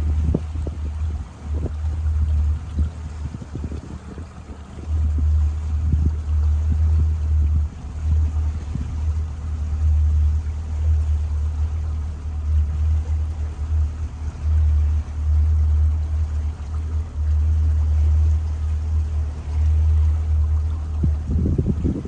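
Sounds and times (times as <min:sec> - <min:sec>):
rushing air and water: 0:00.0 - 0:22.0
wind buffeting microphone: 0:00.0 - 0:22.0.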